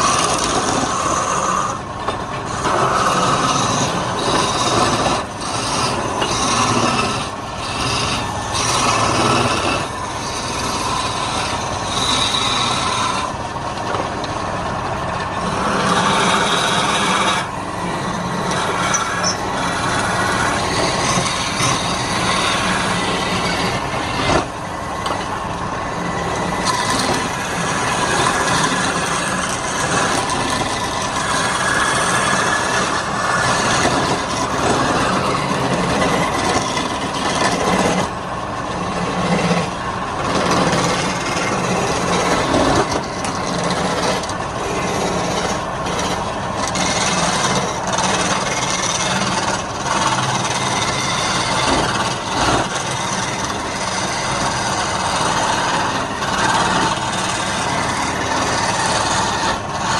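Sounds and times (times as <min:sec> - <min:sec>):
wood lathe tool scraping wood: 0:00.0 - 0:59.9.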